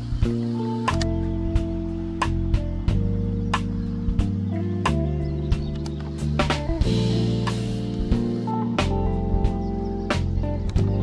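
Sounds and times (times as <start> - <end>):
instrumental chords: 0.0 - 11.0
drum beat: 1.2 - 11.0.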